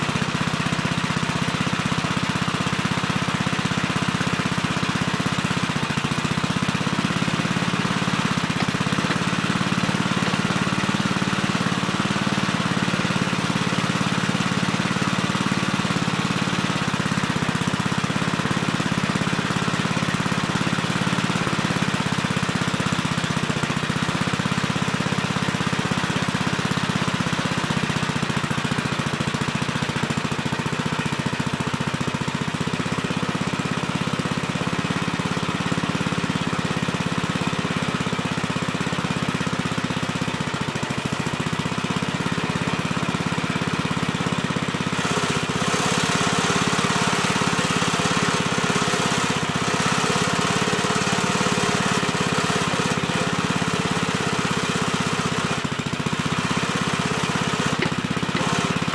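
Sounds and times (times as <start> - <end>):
backhoe engine running: 0.0 - 58.9.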